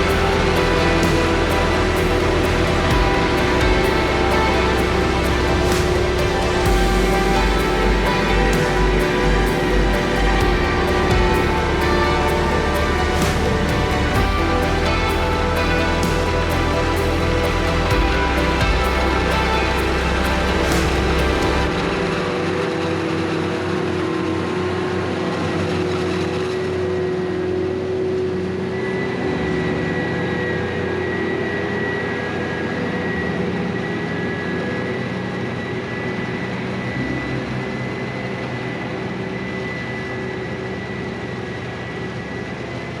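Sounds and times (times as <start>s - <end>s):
forage harvester drone: 0.0s - 43.0s
high machine whine: 0.0s - 43.0s.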